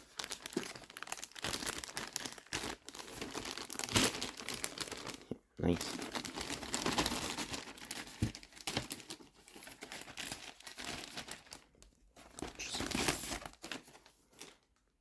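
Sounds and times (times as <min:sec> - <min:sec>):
tape and plastic wrapping crinkling: 0:00.0 - 0:14.8.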